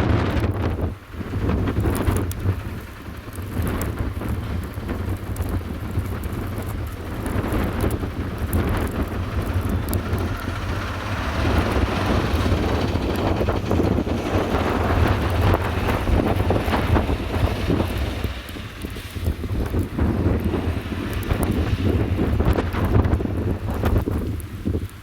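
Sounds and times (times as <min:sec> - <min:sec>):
gusty blizzard wind: 0:00.0 - 0:25.0.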